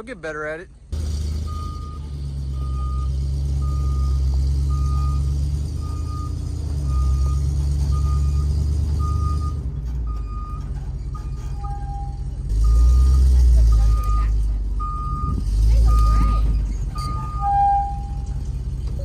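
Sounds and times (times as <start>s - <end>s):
excavator diesel engine: 0.0s - 19.0s
backup alarm beeping: 1.5s - 18.4s.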